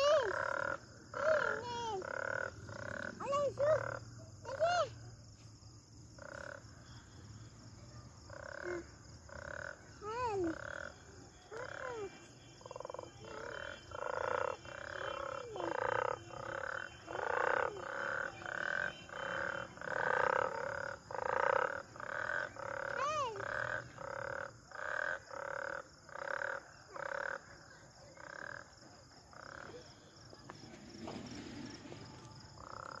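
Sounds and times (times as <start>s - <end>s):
frogs croaking: 0.0s - 31.2s, 32.3s - 33.0s.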